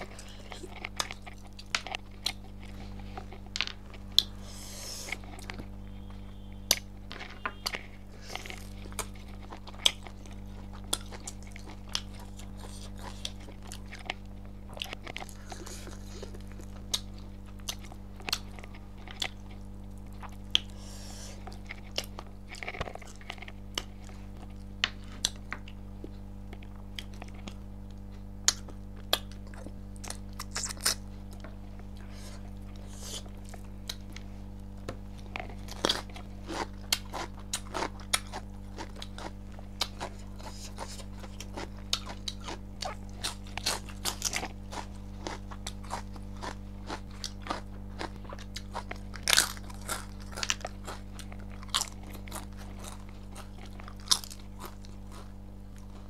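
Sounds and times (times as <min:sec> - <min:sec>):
chewing and crunching: 0:00.0 - 0:56.0
low hum: 0:00.0 - 0:56.0.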